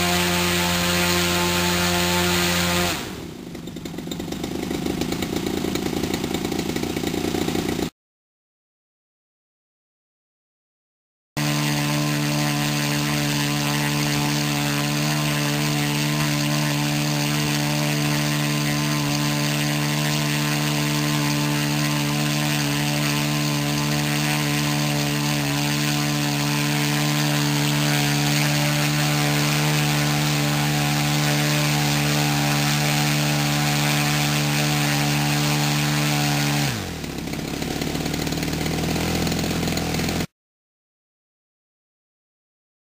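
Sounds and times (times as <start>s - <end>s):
small engine running: 0.0s - 7.9s, 11.4s - 40.3s.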